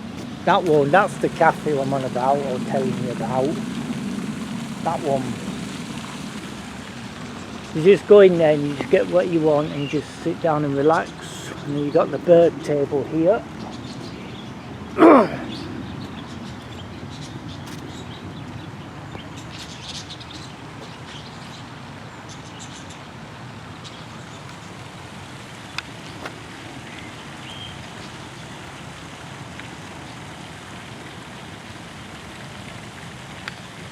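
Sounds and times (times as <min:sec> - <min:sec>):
small birds chirping: 0:00.0 - 0:30.6
outdoor background noise: 0:00.0 - 0:33.9.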